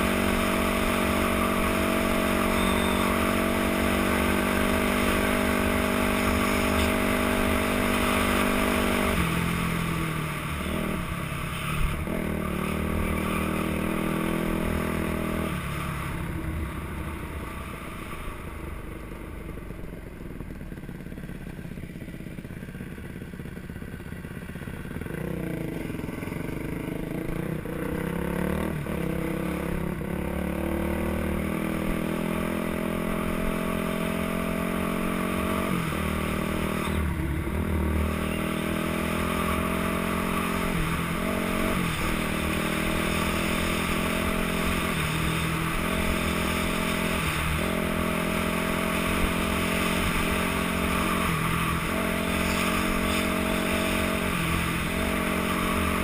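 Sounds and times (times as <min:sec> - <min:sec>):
dirt bike engine: 0:00.0 - 0:56.0.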